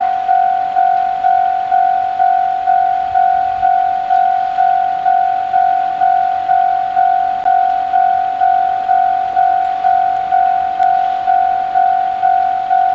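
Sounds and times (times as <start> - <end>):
level crossing warning bell: 0.0 - 12.9.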